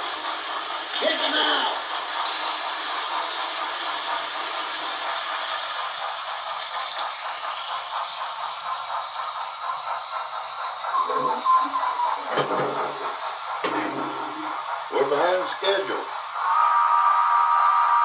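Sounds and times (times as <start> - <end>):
steam hiss with rattling: 0.0 - 18.0.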